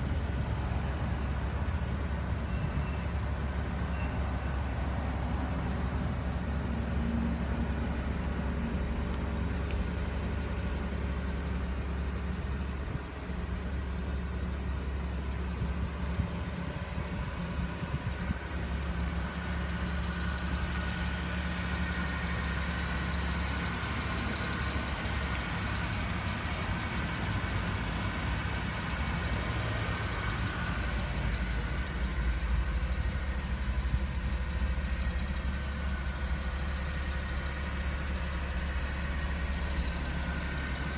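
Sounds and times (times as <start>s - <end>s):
truck engine idling: 0.0s - 40.9s.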